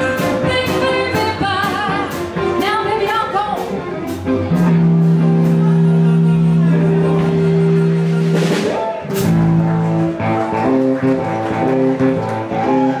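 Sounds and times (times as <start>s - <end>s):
band playing guitars and drums: 0.0s - 13.0s.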